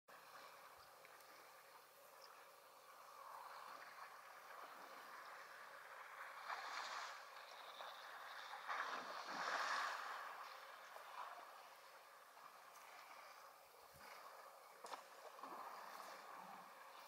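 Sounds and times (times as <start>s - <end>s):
elephant splashing water: 3.0s - 17.0s.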